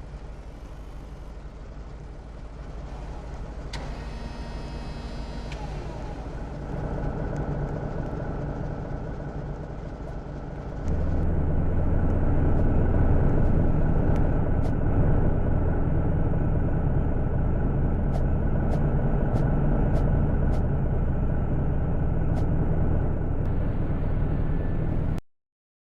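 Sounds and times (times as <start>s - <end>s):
vehicle engine running: 0.0s - 25.2s.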